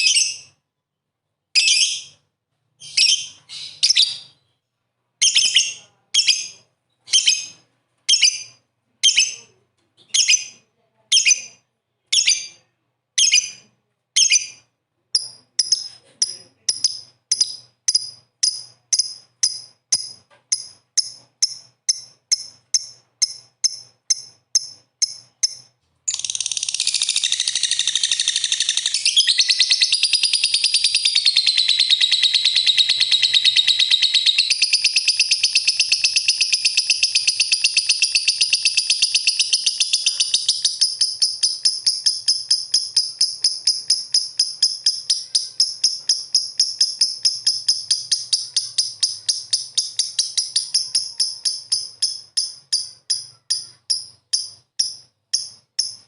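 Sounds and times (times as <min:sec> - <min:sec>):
bird chirping and trilling: 0:00.0 - 0:00.6, 0:01.6 - 0:04.6, 0:05.2 - 0:10.6, 0:11.2 - 0:13.6, 0:14.2 - 0:16.0, 0:16.7 - 0:56.0.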